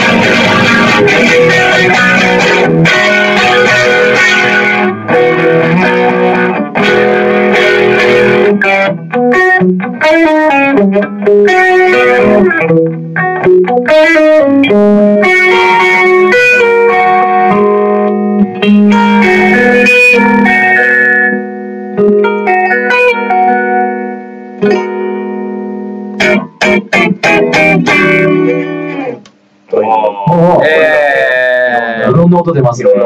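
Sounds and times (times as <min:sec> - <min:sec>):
electric guitar through amplifier: 0:00.0 - 0:33.0.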